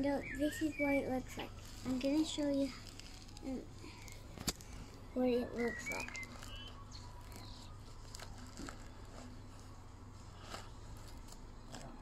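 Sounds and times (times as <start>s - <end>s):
paper towel crinkling: 0.7s - 12.0s.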